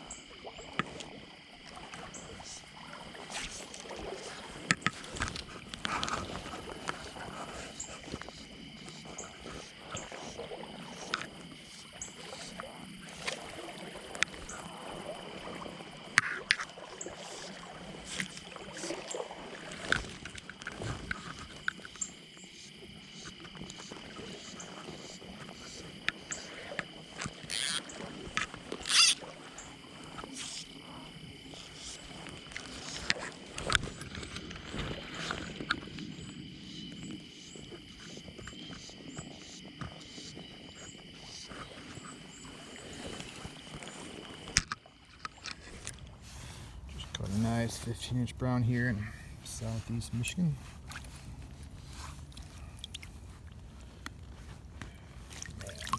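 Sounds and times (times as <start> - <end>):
water splashing: 0.0 - 47.1, 55.2 - 55.9.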